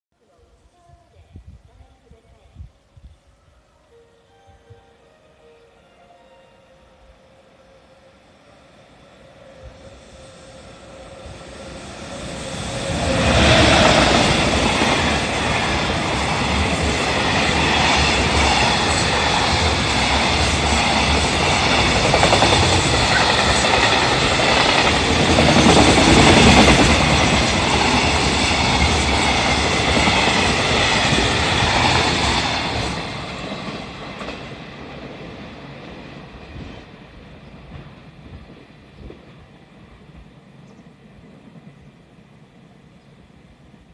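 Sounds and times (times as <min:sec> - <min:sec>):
electric locomotive passing: 0:02.6 - 0:43.9.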